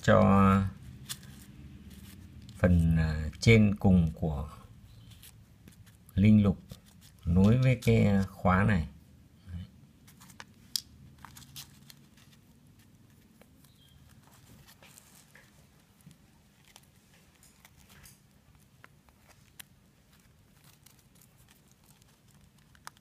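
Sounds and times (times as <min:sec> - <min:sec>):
fingers rustling: 0:00.0 - 0:08.6, 0:10.0 - 0:23.0
low steady hum: 0:00.0 - 0:23.0.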